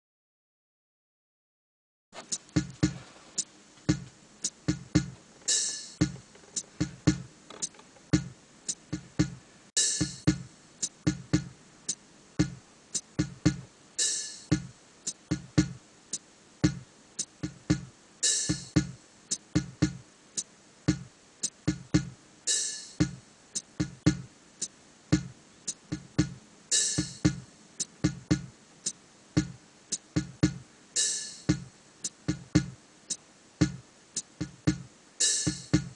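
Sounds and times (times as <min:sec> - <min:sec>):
background music with steady beat: 0:02.2 - 0:35.9.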